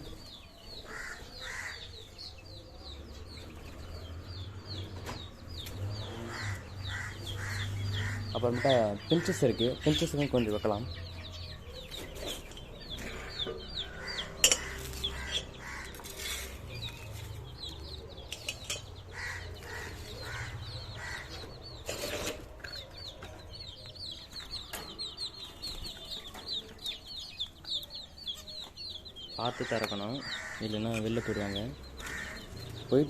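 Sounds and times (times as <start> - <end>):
cage birds chirping: 0.0 - 33.0.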